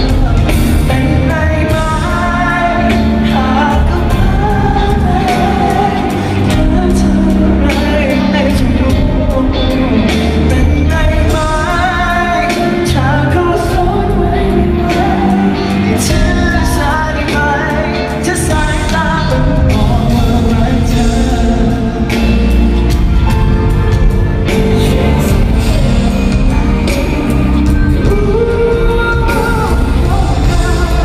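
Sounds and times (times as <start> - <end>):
live pop band music: 0.0 - 31.0
person singing: 0.0 - 31.0.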